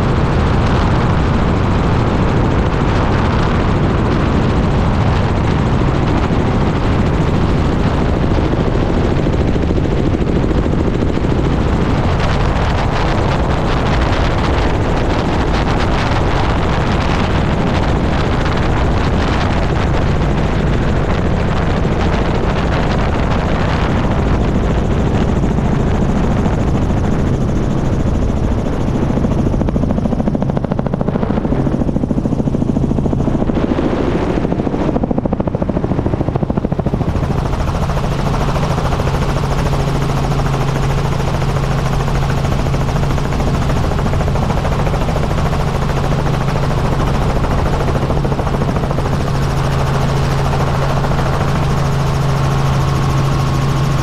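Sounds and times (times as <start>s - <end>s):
helicopter rotor and engine: 0.0s - 54.0s.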